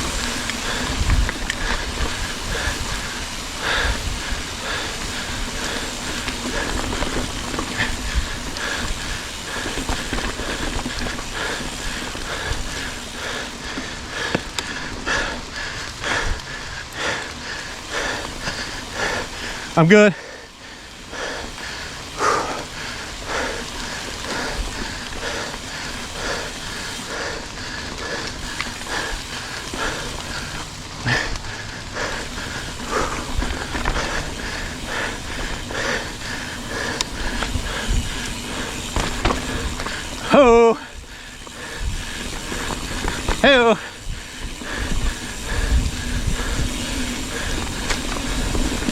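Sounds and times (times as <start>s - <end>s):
bike tyres rolling on dirt: 0.0s - 48.9s
person breathing hard: 0.0s - 48.9s
rough trail rumble: 0.0s - 48.9s.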